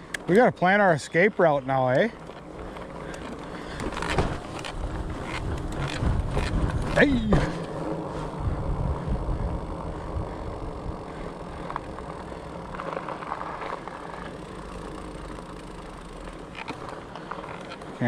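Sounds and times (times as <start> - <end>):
bike tyres rolling on asphalt: 0.0 - 18.0.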